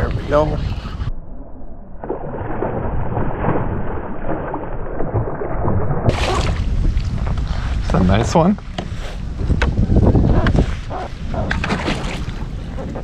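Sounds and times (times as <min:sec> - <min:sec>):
muffled water splashing: 0:00.0 - 0:13.0.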